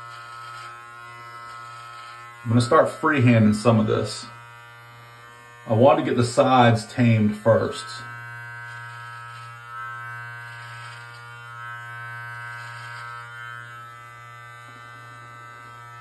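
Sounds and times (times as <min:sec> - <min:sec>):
beard trimmer buzzing: 0:00.0 - 0:16.0.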